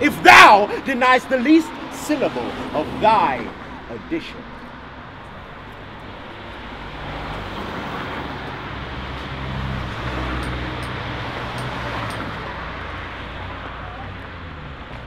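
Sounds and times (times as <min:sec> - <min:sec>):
street traffic: 0:00.0 - 0:15.0
vehicle engine hum: 0:00.0 - 0:15.0.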